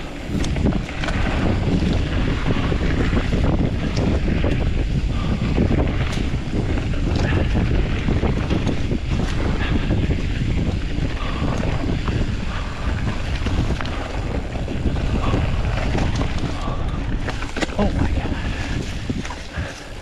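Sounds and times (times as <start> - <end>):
bike clattering and ticking: 0.0 - 20.0
bike tyres on dirt: 0.0 - 20.0
wind on microphone: 0.0 - 20.0.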